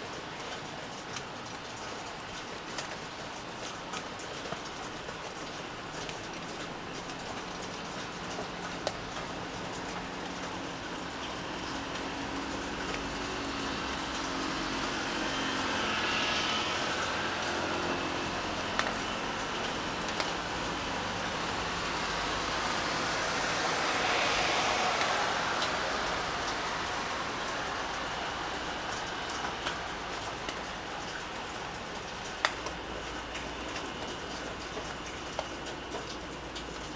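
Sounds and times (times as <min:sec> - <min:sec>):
steady rainfall: 0:00.0 - 0:36.9
vehicles passing: 0:05.3 - 0:36.9.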